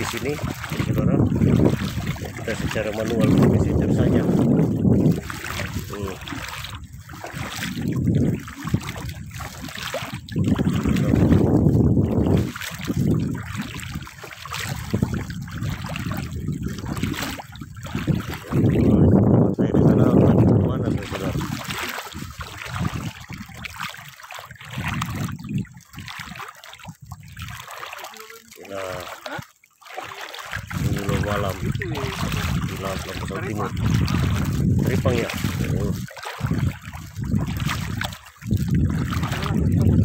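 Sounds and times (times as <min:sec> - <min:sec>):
wind rumbling on microphone: 0:00.0 - 0:28.0, 0:30.0 - 0:40.0
water sloshing around wading person: 0:00.0 - 0:40.0.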